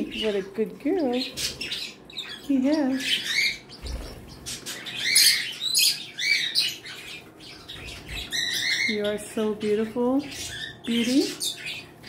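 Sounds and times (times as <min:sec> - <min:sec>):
parrots chirping and squawking: 0:00.0 - 0:12.0.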